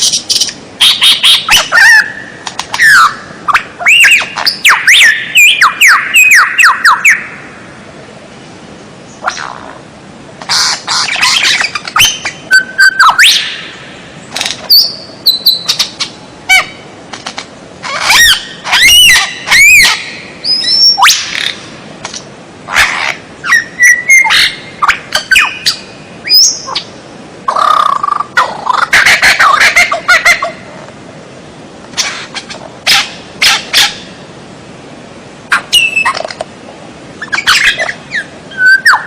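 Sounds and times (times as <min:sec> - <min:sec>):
songbird singing: 0:00.0 - 0:30.8, 0:35.5 - 0:39.0.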